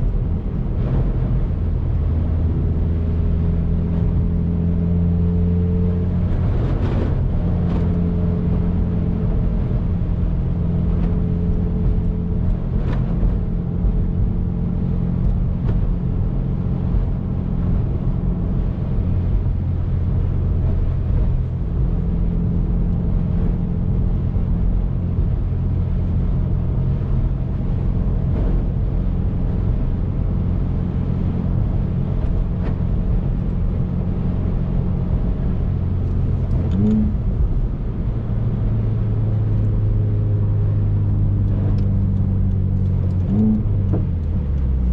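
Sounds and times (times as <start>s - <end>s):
car engine cruising: 0.0s - 44.9s
road noise: 0.0s - 44.9s.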